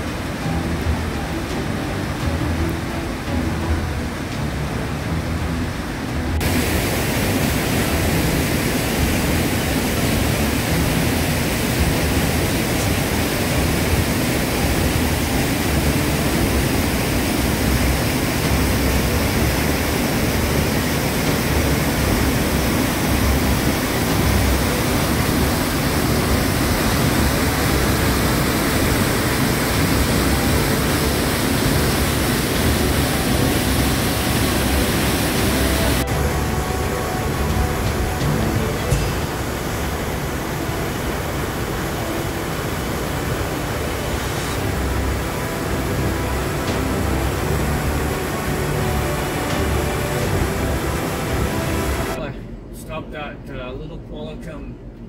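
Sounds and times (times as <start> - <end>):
waterfall and rapids rushing: 0.0 - 52.3.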